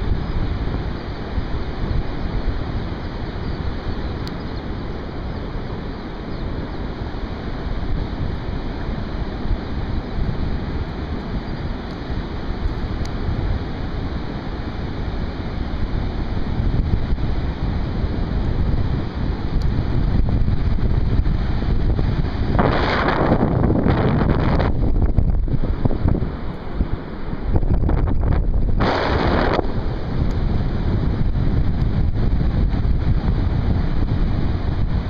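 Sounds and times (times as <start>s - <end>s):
rushing wind: 0.0s - 35.0s
wind buffeting microphone: 0.0s - 35.0s.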